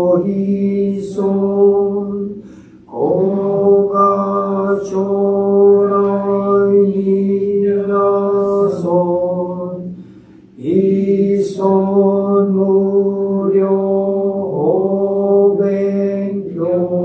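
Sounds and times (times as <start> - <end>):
man chanting in monotone: 0.0 - 17.0.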